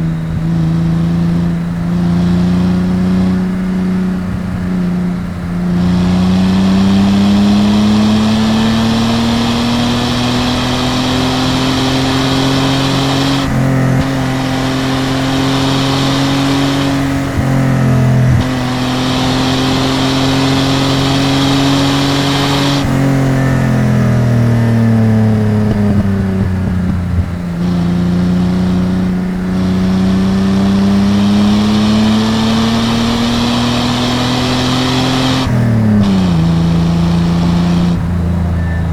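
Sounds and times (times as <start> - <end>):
car engine and exhaust revving: 0.0 - 38.9.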